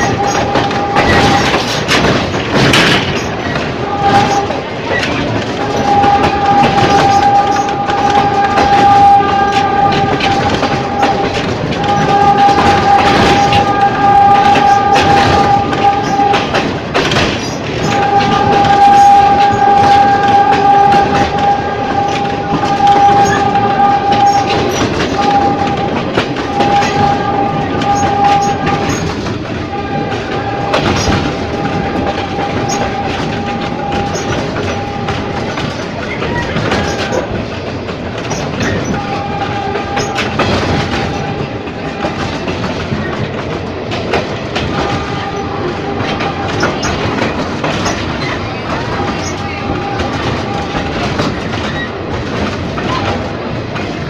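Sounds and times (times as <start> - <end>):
train rumbling over track: 0.0 - 54.0
wheel clicks over rail joints: 0.0 - 54.0.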